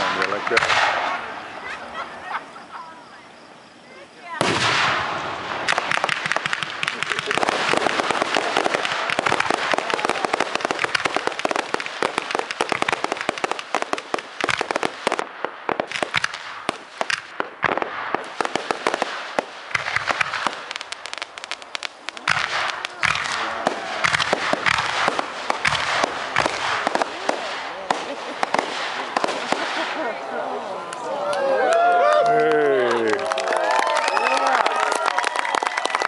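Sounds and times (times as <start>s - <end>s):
fireworks crackling: 0.0s - 31.1s.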